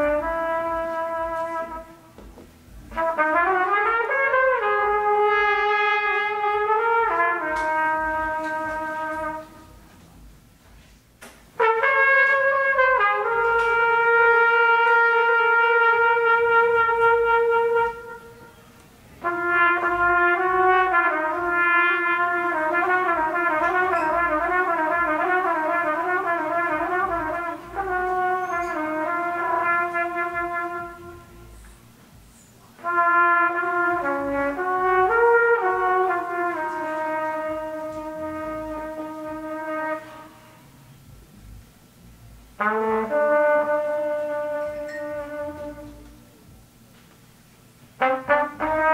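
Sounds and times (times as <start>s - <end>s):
trumpet long held notes: 0.0s - 10.9s, 11.6s - 46.8s, 47.9s - 48.9s.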